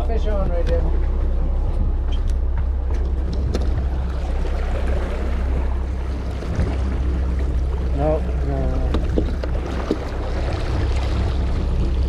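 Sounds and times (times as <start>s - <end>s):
boat engine rumbling: 0.0s - 12.0s
water noise: 0.0s - 12.0s
wind: 0.0s - 12.0s.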